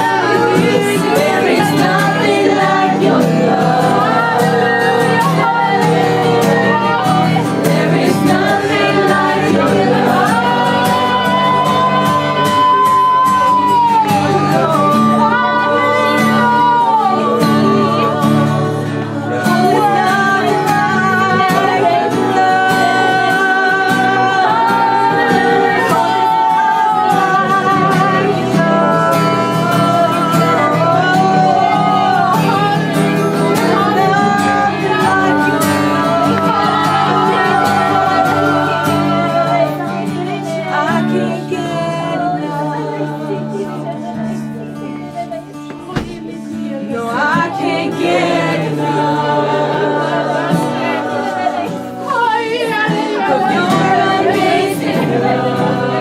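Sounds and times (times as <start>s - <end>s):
person singing with vibrato: 0.0s - 56.0s.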